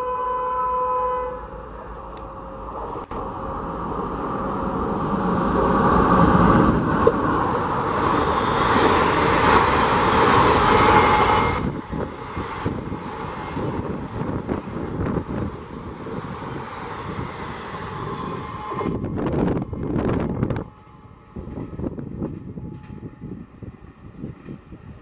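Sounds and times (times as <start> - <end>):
train rushing past: 1.0 - 25.0.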